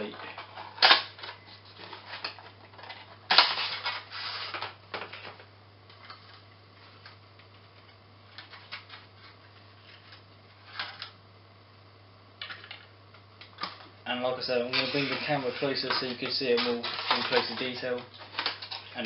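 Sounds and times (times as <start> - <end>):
plastic packaging rustling and clicking: 0.0 - 11.2, 14.7 - 19.0
low steady hum: 0.0 - 19.0.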